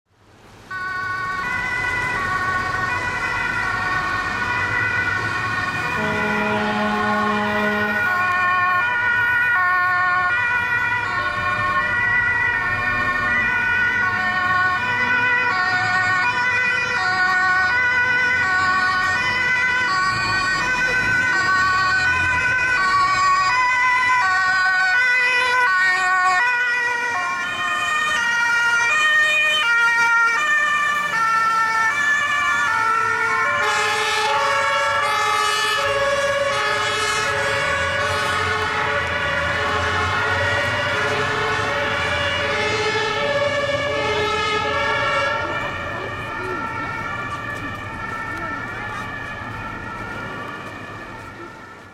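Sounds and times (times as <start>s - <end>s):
truck engines rumbling: 0.1s - 51.9s
two-tone sirens: 0.4s - 51.9s.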